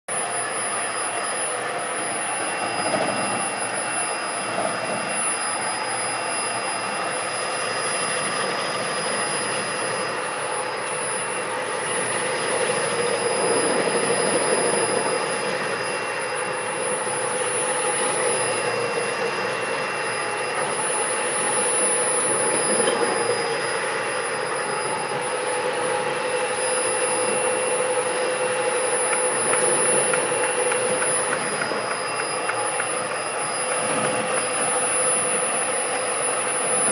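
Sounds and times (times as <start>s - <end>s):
concrete grinder whine: 0.1s - 36.9s.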